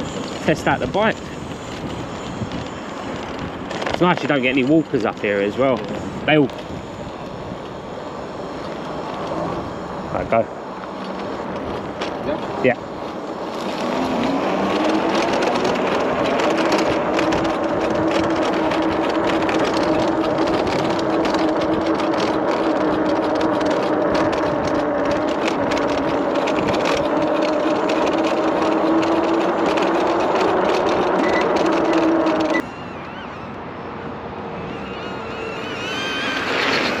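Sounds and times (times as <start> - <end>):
wind rushing over microphone: 0.0 - 35.6
electric motor whining: 0.0 - 37.0.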